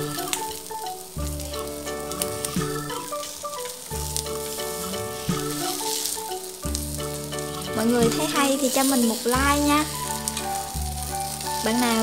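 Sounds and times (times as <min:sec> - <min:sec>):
background music with held notes: 0:00.0 - 0:12.0
oil sizzling in frying pan: 0:00.0 - 0:12.0.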